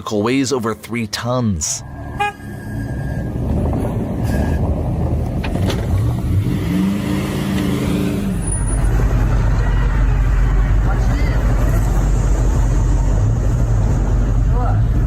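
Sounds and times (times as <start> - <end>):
rumbling background noise: 0.0 - 15.0
off-road vehicle engine revving: 1.8 - 15.0.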